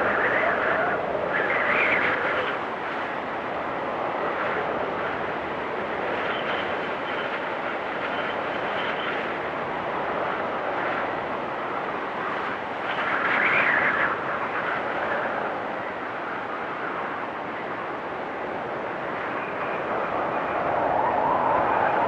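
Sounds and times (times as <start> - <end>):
wind storm whistling rush: 0.0 - 22.0.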